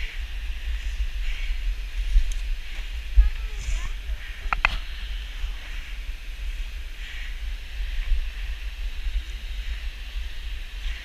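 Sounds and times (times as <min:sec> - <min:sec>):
outdoor hiss: 0:00.0 - 0:11.0
wind buffeting microphone: 0:00.0 - 0:11.0.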